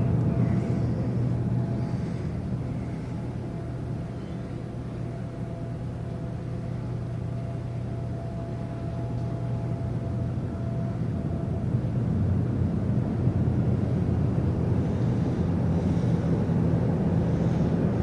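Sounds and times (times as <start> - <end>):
faint steady whine: 0.0 - 18.0
ship machinery rumbling: 0.0 - 18.0.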